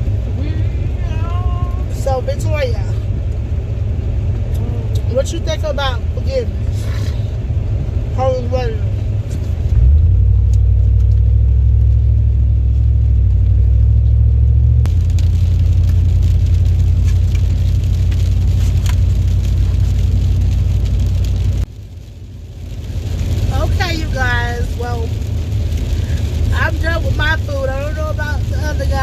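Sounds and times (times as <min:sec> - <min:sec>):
car cabin rumble: 0:00.0 - 0:21.8, 0:22.6 - 0:29.0.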